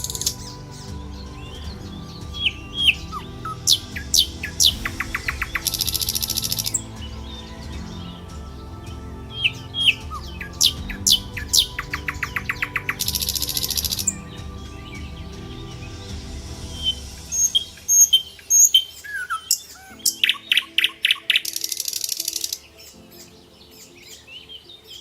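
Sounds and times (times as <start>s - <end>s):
soft background music: 0.0s - 25.0s
songbirds chirping and trilling: 0.0s - 25.0s.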